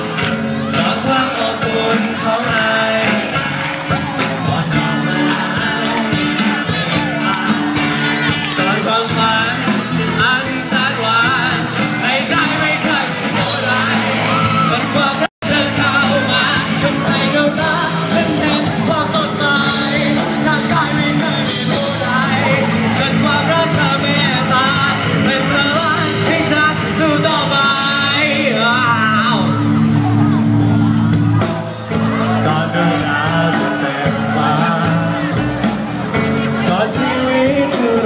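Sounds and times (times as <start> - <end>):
crowd shouting and yelling: 0.0 - 38.0
lead vocalist singing: 0.0 - 38.0
live rock band playing: 0.0 - 38.0.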